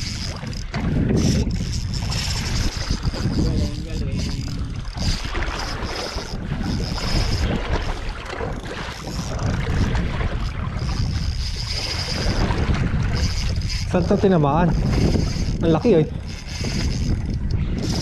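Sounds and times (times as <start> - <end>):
fishing reel cranking: 0.0 - 18.0
sea and boat noise: 0.0 - 18.0
wind buffeting microphone: 0.0 - 18.0.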